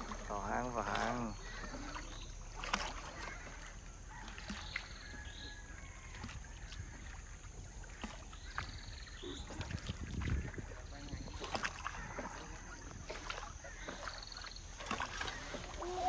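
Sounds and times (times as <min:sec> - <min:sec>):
oars knocking and dipping in water: 0:00.0 - 0:16.0.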